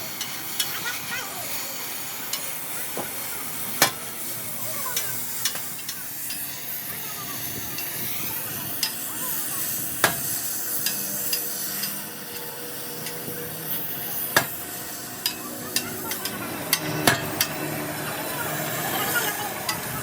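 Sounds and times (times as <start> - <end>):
sizzling hiss: 0.0 - 20.0.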